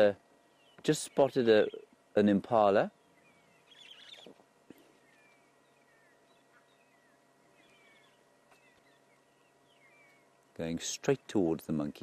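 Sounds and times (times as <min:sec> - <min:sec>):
distant monkey alarm calls: 0:00.0 - 0:02.1, 0:02.9 - 0:10.6.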